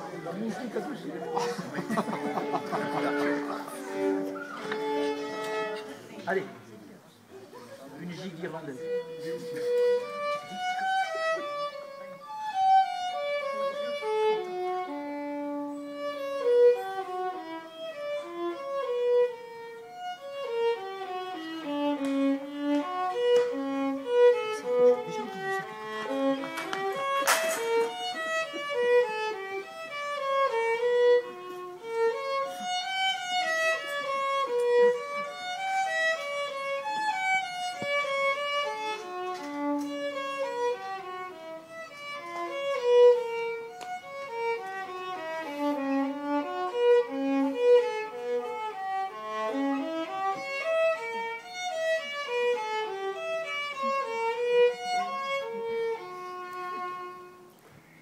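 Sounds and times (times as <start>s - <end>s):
solo violin playing a jig: 0.0s - 6.5s, 8.0s - 57.9s.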